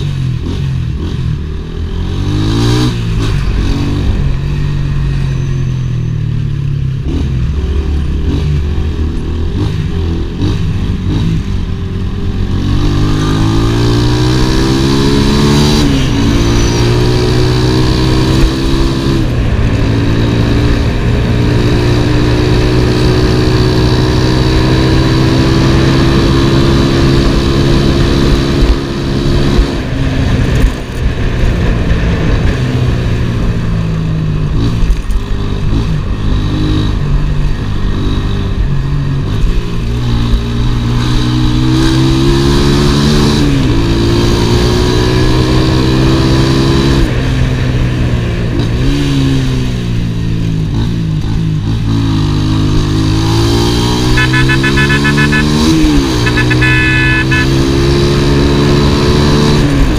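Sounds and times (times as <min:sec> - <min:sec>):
motorcycle engine revving: 0:00.0 - 0:33.7, 0:34.4 - 0:59.9.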